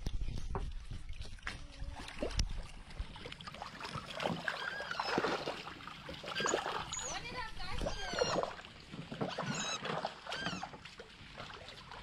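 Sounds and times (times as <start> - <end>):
otters splashing in water: 0.4 - 12.0.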